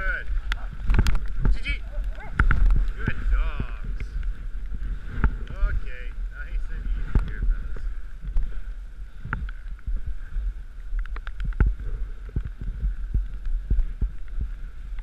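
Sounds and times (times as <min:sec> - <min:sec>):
sled runners rumbling on snow: 0:00.0 - 0:15.0.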